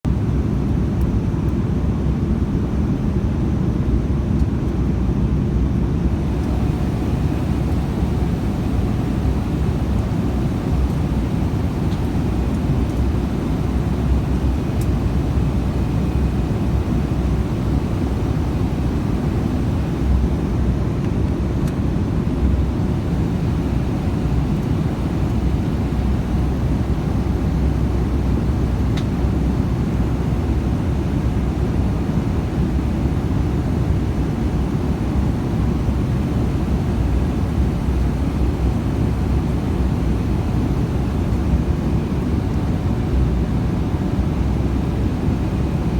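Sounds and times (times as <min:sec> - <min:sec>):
airliner cabin rumble: 0:06.0 - 0:45.9.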